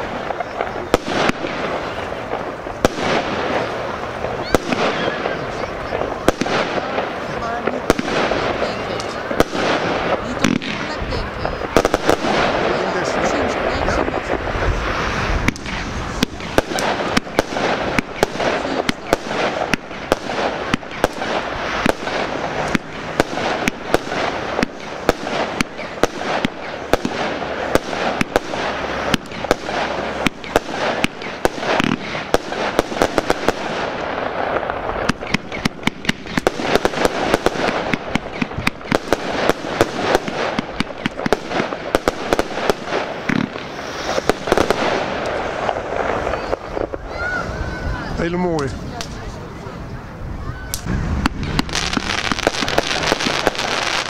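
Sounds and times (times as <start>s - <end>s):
fireworks shells bursting: 0.0s - 47.1s, 50.7s - 54.0s
fireworks crackling: 0.0s - 54.0s.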